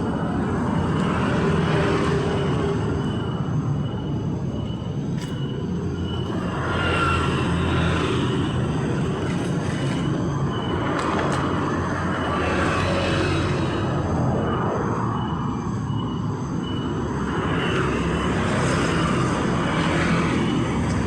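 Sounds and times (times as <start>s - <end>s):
passing vehicles rumbling: 0.0s - 21.0s.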